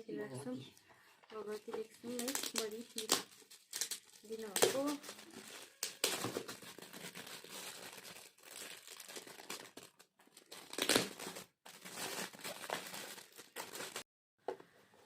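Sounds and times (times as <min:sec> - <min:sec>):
wrapping paper crinkling and tearing: 0:01.4 - 0:14.0.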